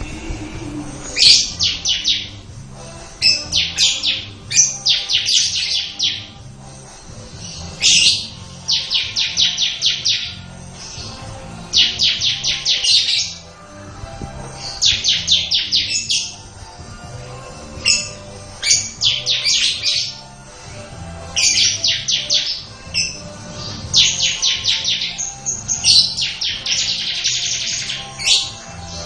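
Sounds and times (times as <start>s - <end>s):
bird singing stuttering notes: 0.0s - 13.6s, 14.4s - 16.9s, 17.6s - 29.0s
faint background music: 0.0s - 29.0s.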